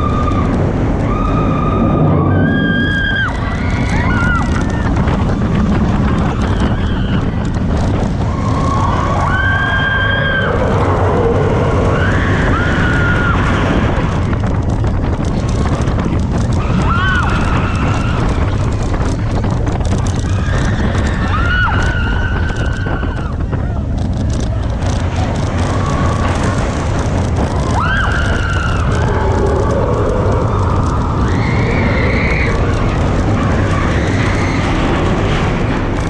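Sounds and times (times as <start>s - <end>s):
riders screaming: 0.0s - 14.4s, 16.4s - 23.8s, 24.4s - 35.8s
roller coaster train rumbling: 0.0s - 36.0s
wind rush on microphone: 0.0s - 36.0s.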